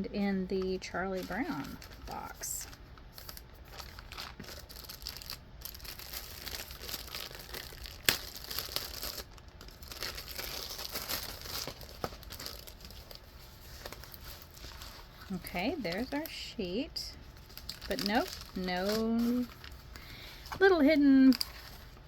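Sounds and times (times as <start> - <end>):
packaging crinkling and tearing: 0.6 - 22.0.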